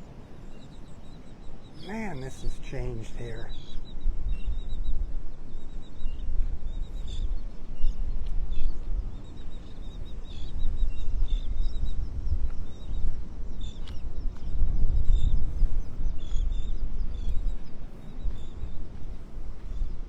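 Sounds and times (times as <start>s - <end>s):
flock of birds chirping: 0.0s - 20.0s.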